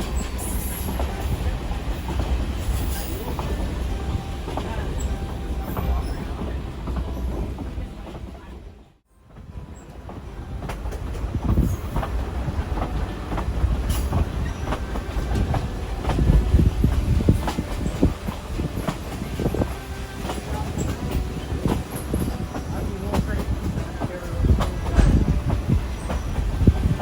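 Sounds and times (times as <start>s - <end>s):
train cars rumbling on track: 0.0s - 27.0s.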